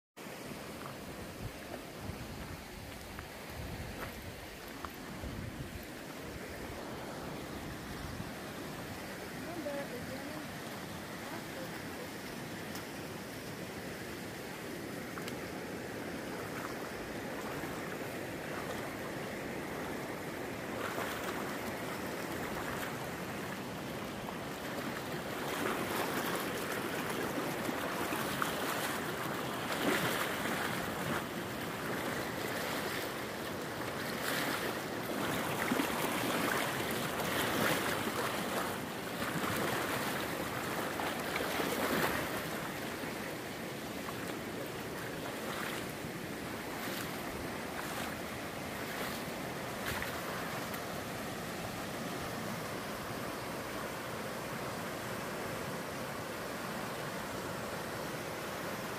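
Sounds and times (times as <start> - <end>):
stream rushing over rocks: 0.2 - 58.9.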